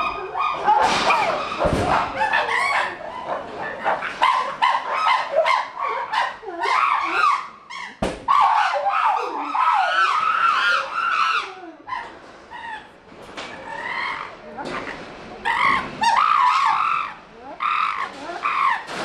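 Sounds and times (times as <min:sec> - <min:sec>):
chimpanzees calling: 0:00.0 - 0:19.0.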